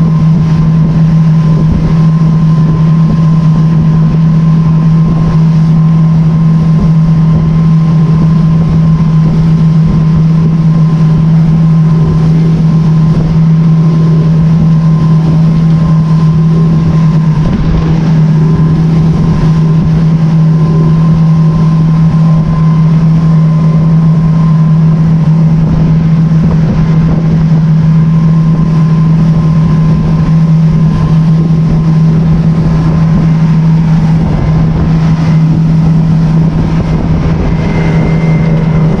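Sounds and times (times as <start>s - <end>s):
boat motor running: 0.0s - 39.0s
wind rumbling on microphone: 0.0s - 39.0s.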